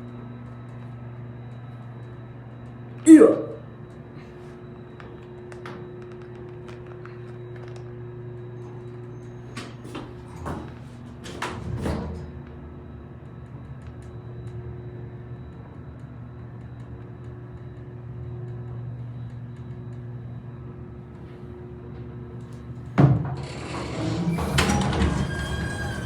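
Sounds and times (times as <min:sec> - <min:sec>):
elevator machinery hum: 0:00.0 - 0:26.0.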